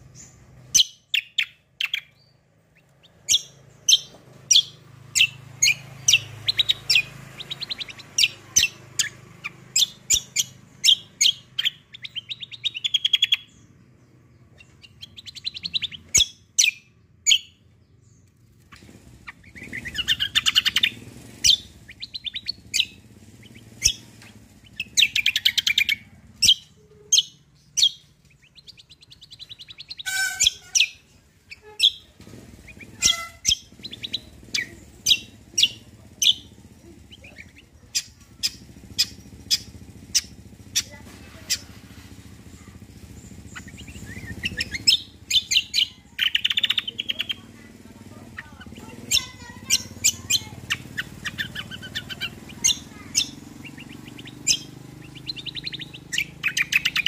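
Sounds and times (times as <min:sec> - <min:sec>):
songbird singing high clipped notes: 0:00.1 - 0:41.7, 0:42.6 - 0:47.4, 0:48.4 - 0:57.0
bird rattling trills: 0:02.8 - 0:13.5, 0:18.5 - 0:57.0.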